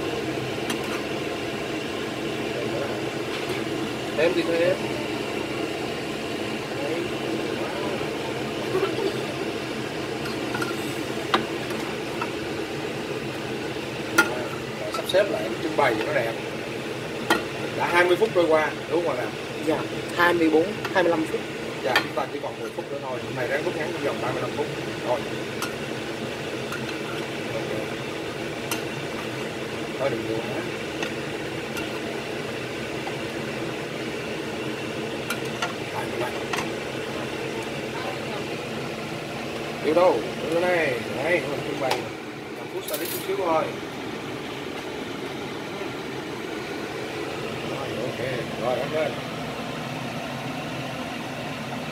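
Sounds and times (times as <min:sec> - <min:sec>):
steady mechanical hum: 0:00.0 - 0:51.9.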